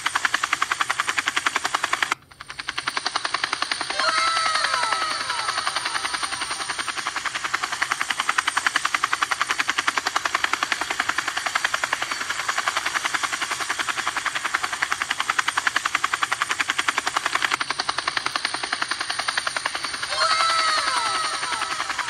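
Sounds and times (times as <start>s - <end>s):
toy helicopter rotors chopping: 0.0s - 22.0s.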